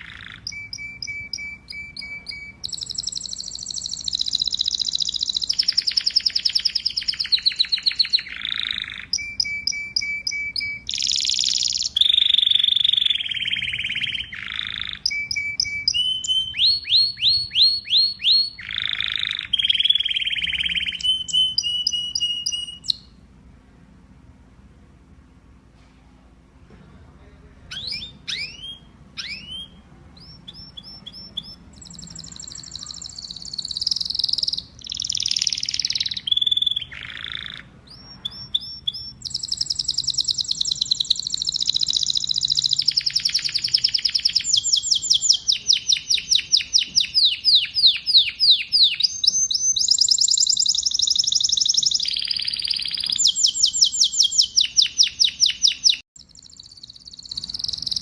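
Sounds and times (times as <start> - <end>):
canary chirps sweeping downward: 0.0 - 23.2, 27.7 - 58.0
canary singing trills: 0.0 - 23.2, 27.7 - 58.0.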